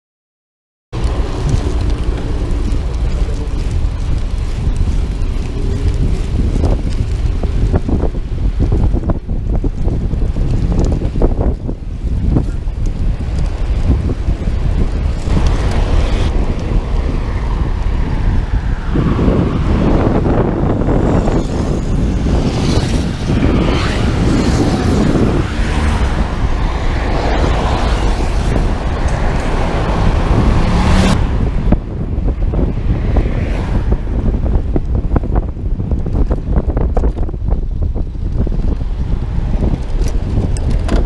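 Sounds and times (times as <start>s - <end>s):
road traffic passing: 1.0s - 9.0s, 10.0s - 41.0s
wind buffeting microphone: 1.0s - 41.0s.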